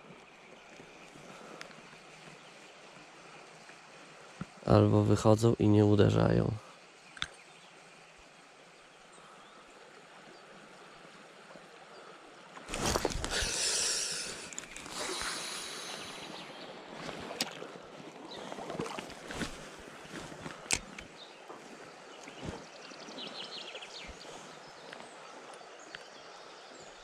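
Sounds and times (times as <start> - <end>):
river water flowing: 0.0 - 27.0.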